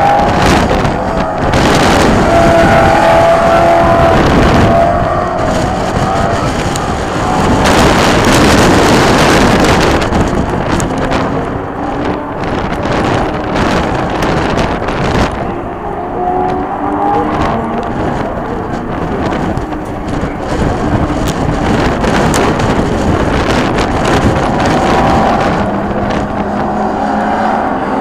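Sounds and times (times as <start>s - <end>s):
race car engines passing: 0.0s - 28.0s
wind rush on microphone: 0.0s - 28.0s.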